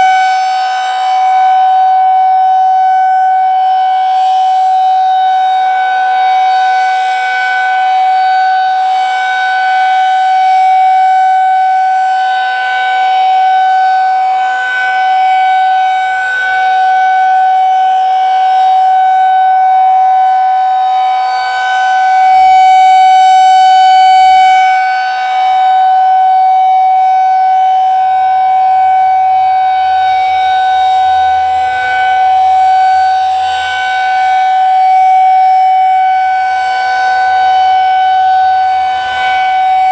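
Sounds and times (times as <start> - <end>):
rotating outdoor warning siren: 0.0 - 39.9.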